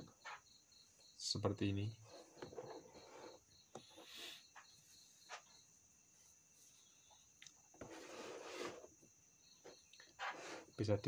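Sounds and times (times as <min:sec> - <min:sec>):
faint cricket chirping: 0:00.0 - 0:11.0.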